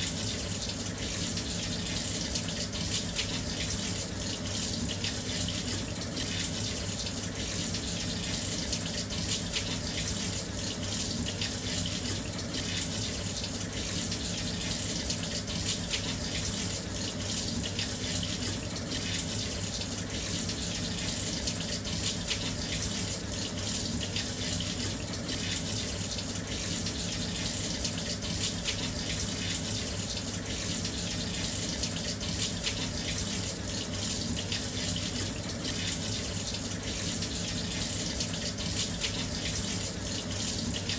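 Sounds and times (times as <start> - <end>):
water rushing into washing machine: 0.0 - 40.9.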